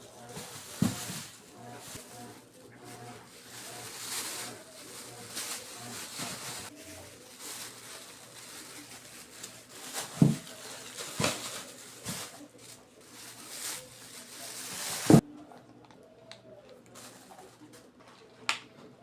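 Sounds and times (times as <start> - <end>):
rustling: 0.0 - 15.2.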